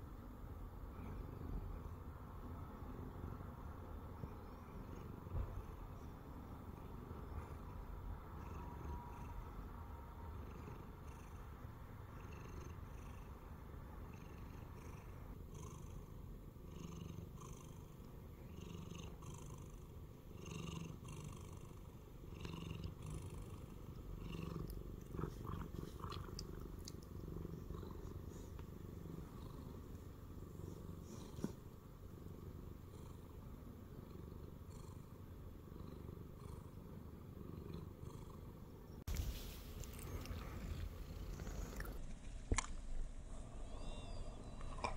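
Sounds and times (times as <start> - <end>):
cat purring: 0.8 - 42.3.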